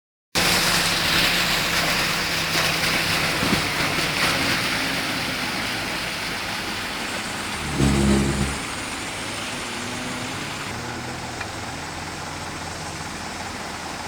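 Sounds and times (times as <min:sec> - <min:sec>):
low vehicle hum: 0:00.4 - 0:14.0
rain and tyres on wet road: 0:00.4 - 0:14.0.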